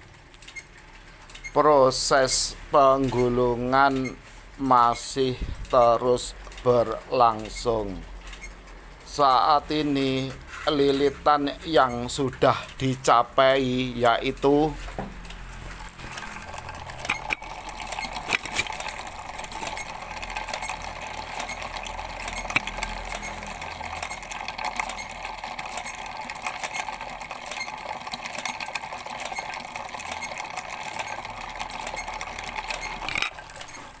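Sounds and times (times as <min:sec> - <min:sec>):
coil-winding machine whirring: 0:00.0 - 0:34.0
machine clicks: 0:00.0 - 0:34.0.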